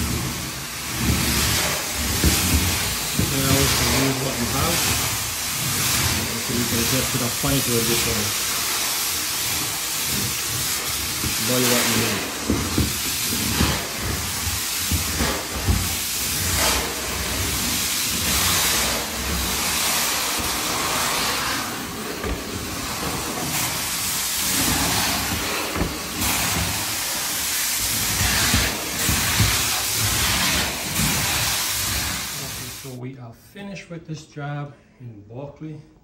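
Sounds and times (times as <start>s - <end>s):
extraction wand vacuum suction: 0.0s - 33.0s.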